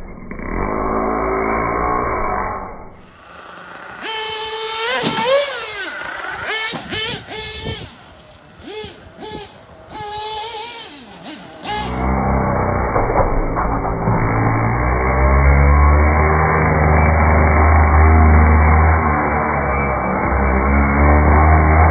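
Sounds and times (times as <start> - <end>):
rc car engine revving: 0.2 - 21.9.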